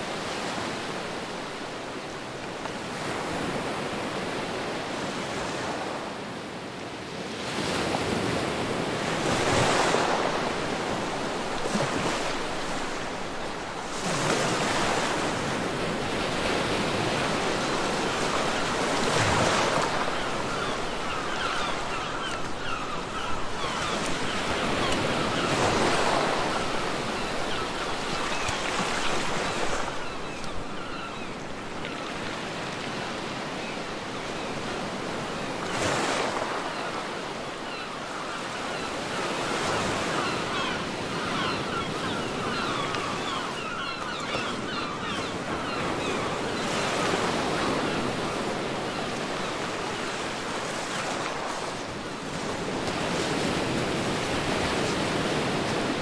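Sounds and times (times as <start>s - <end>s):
ocean waves breaking: 7.2s - 56.0s.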